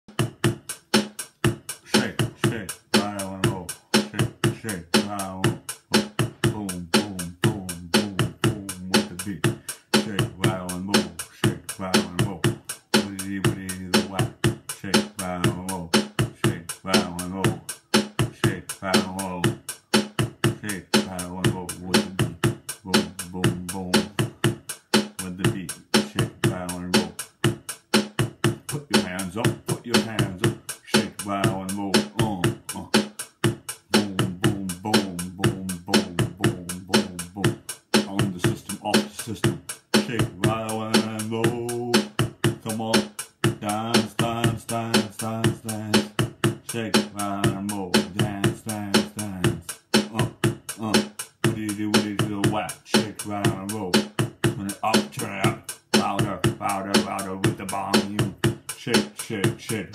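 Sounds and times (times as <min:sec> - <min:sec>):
beatboxing kick and snare hits: 0:00.0 - 0:59.9.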